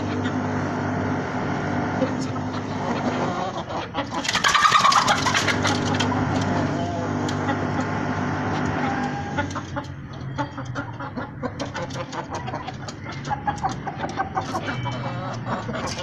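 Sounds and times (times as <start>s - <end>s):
hen clucking: 1.8s - 16.0s.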